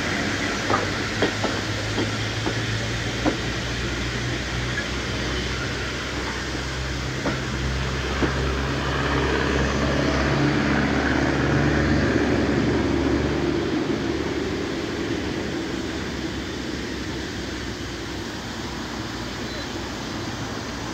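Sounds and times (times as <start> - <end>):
train coaches rumbling: 0.0 - 20.9.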